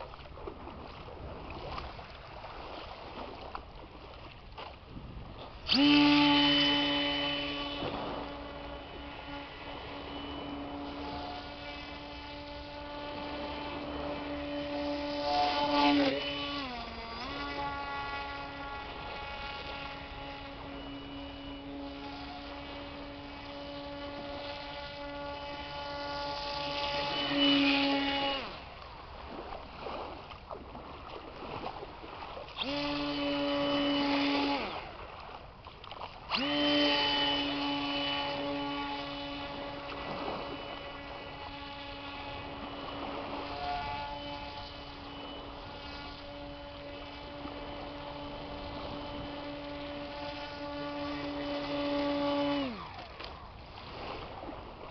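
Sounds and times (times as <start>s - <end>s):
propeller motor whining: 0.0s - 29.6s, 31.5s - 54.9s.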